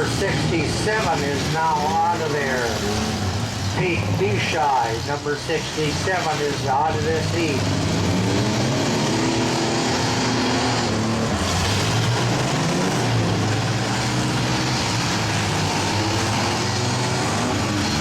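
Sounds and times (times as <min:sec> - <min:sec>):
engines revving: 0:00.0 - 0:18.0.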